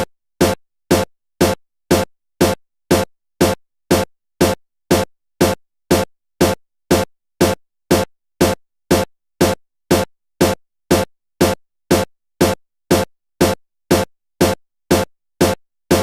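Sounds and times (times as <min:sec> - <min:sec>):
chopped electronic beat: 0:00.0 - 0:16.0.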